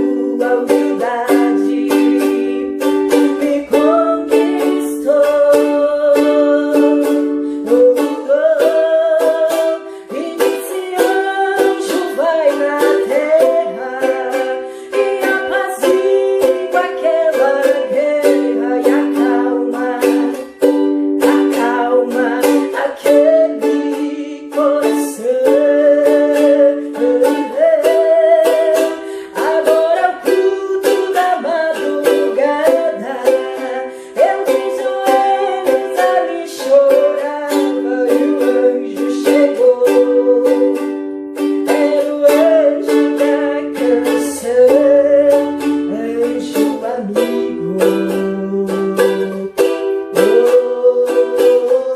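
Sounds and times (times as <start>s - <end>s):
ukulele strumming hymn chords: 0.0s - 51.9s.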